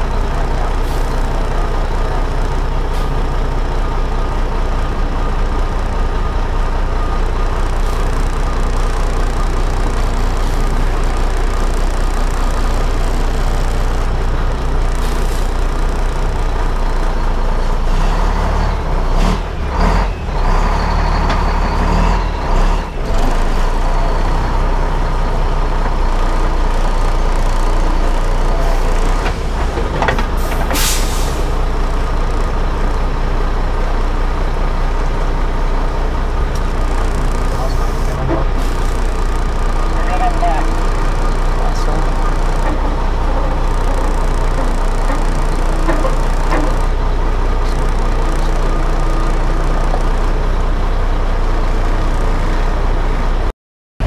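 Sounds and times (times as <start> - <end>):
heavy truck engine running: 0.0 - 53.5.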